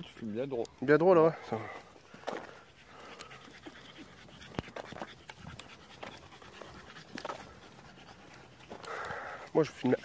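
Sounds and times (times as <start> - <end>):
dog panting: 0.1 - 10.0.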